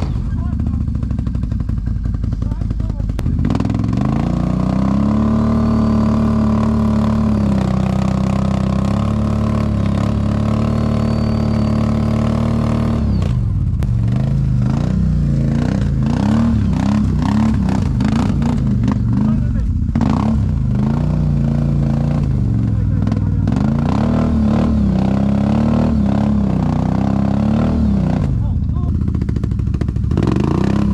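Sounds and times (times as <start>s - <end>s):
quad engine revving: 0.0s - 30.9s.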